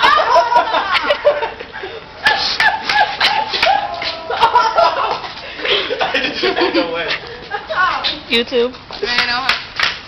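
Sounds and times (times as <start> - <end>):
boys shouting and laughing: 0.0 - 8.3.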